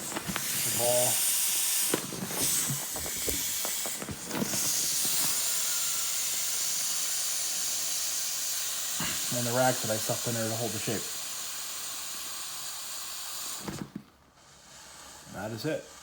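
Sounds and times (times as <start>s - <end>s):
air hissing from ball: 0.0s - 16.0s.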